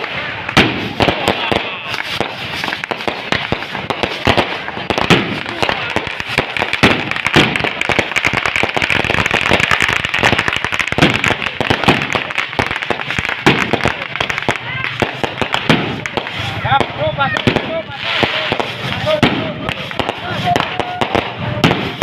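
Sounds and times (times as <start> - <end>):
fireworks crackling and popping: 0.0 - 22.0
loud firework bangs: 0.0 - 22.0.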